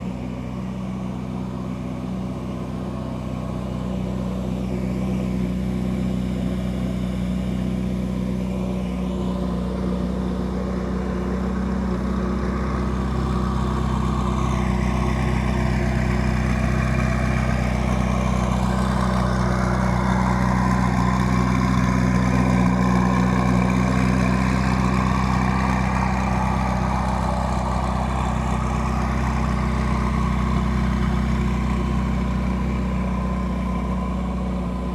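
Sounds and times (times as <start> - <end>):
car engine running at low revs: 0.0 - 34.9.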